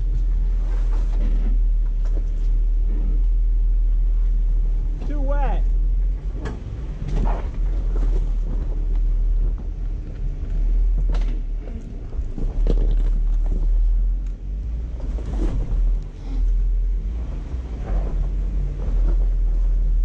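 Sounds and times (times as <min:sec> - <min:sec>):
engine deep rumble: 0:00.0 - 0:20.0.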